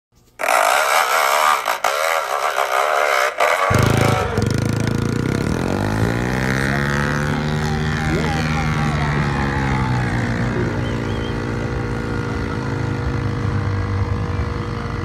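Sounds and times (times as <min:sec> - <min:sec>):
dirt bike engine revving: 0:00.4 - 0:15.0.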